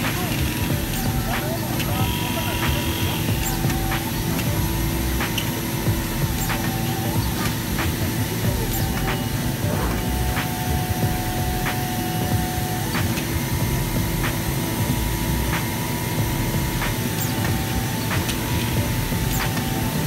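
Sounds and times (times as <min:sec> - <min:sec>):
fabric cutter machine rush: 0:00.0 - 0:20.0
held machine tones: 0:00.0 - 0:20.0.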